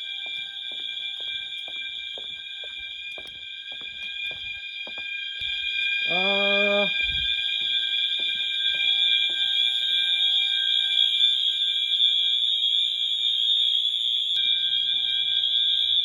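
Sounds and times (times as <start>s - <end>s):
fire alarm continuous tone: 0.0s - 16.0s.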